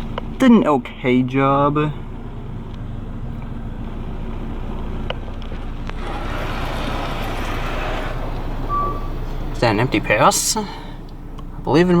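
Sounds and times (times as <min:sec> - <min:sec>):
car wash machinery humming: 0:00.0 - 0:12.0.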